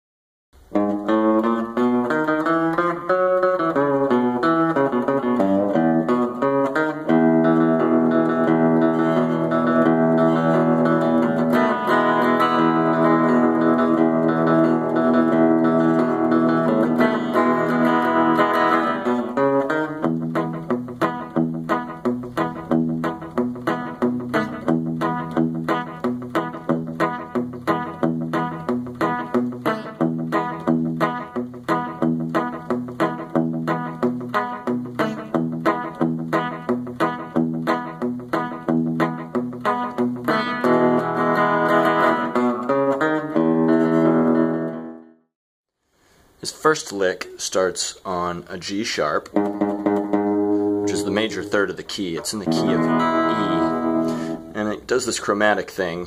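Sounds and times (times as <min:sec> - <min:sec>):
electric guitar rockabilly tune: 0:00.6 - 0:45.1, 0:46.2 - 0:56.0.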